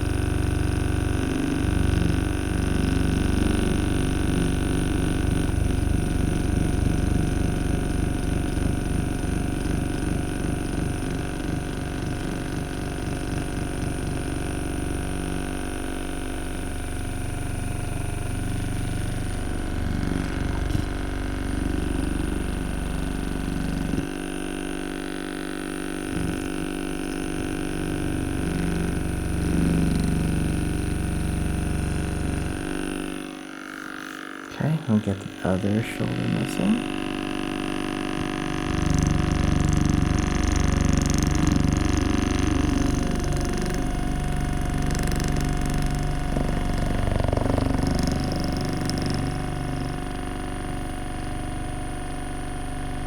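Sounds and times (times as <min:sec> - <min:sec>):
massage gun motor hum: 0:00.0 - 0:53.0.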